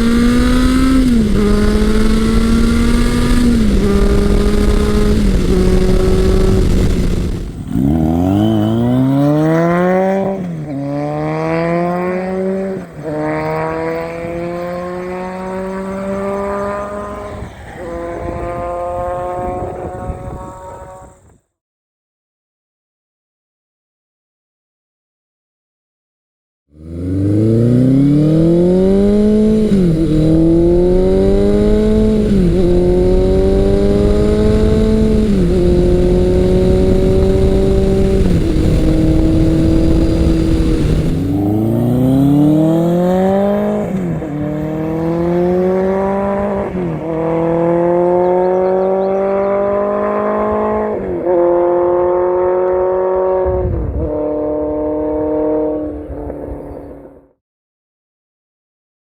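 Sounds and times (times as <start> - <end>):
motorcycle engines accelerating: 0.0 - 21.2, 26.8 - 57.2.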